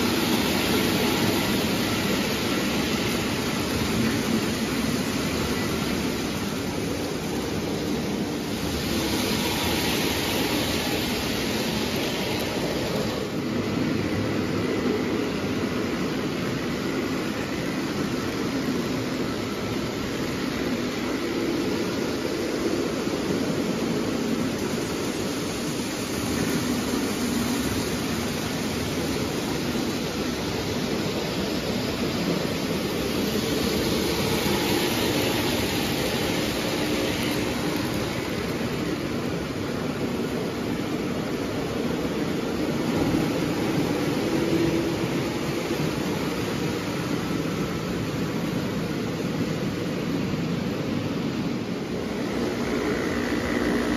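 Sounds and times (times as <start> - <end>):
toy trains rolling on track: 0.0 - 53.9.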